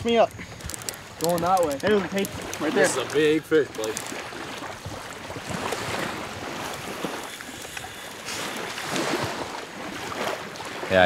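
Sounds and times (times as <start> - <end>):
surf washing on beach: 0.0 - 11.0.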